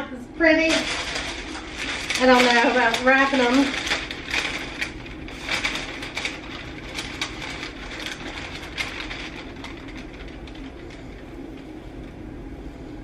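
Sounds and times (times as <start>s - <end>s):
steady low hum: 0.0s - 13.0s
paper rustling and crinkling: 0.4s - 12.1s.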